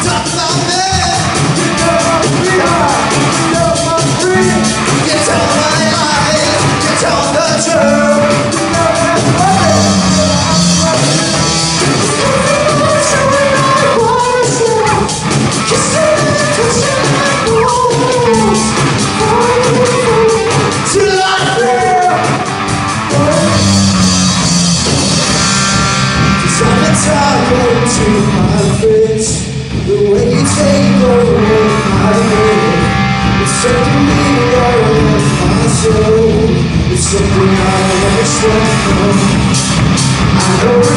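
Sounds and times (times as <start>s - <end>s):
man singing: 0.0s - 25.2s, 26.3s - 40.9s
drum kit: 0.0s - 40.9s
electric guitar: 0.0s - 40.9s.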